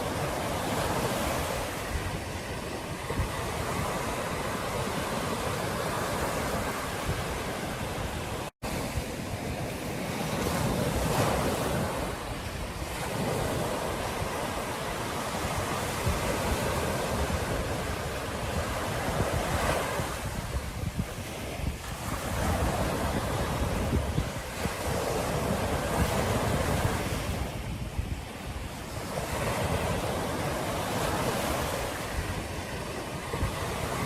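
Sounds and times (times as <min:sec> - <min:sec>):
ocean surf breaking: 0:00.0 - 0:34.0
wind rumbling on microphone: 0:00.0 - 0:34.0.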